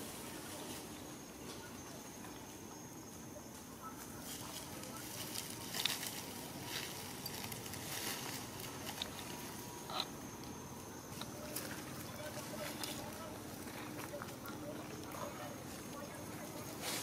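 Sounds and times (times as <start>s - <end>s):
rustling in grass and leaves: 0.0s - 17.0s.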